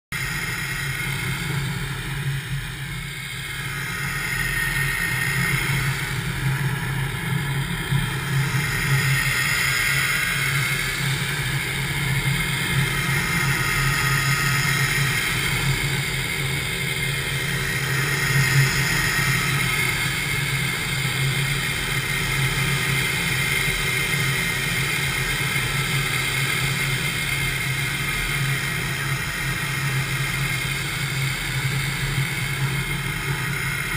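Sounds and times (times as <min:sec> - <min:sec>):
paramotor engine drone: 0:00.1 - 0:33.9.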